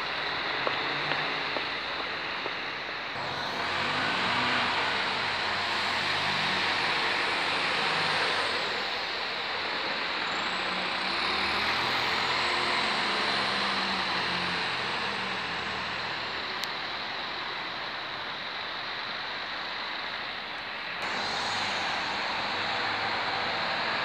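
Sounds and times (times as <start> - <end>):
bus engine driving past: 0.0 - 24.0
street traffic noise: 0.0 - 24.0.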